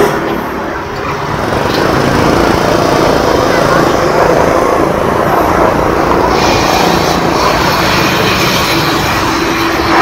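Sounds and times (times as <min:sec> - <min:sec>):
motor scooters and cars running: 0:00.0 - 0:10.0.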